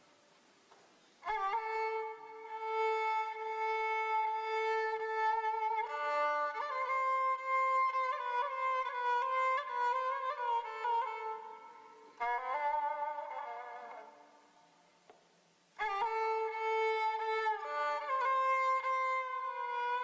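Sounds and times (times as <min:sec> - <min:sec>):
violin slow melody: 0:01.2 - 0:14.8, 0:15.8 - 0:20.0.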